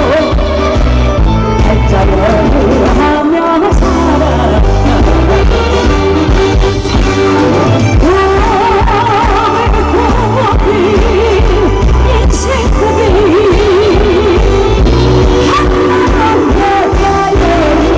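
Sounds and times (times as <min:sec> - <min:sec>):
woman singing into microphone: 0:00.0 - 0:05.9, 0:07.4 - 0:17.9.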